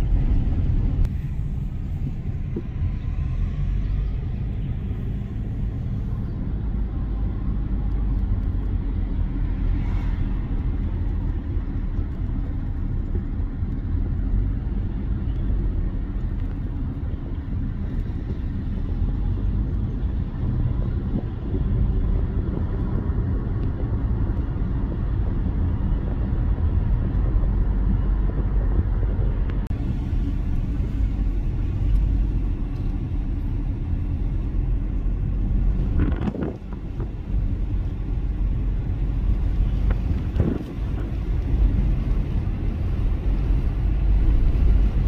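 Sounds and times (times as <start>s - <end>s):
low rumble of road traffic: 0.0s - 45.0s.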